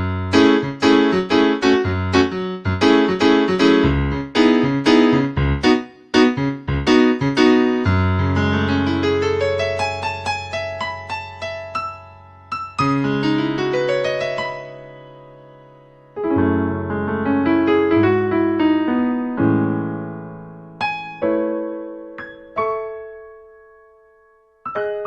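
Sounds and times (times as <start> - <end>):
keyboard playing piano chords: 0.0 - 25.0.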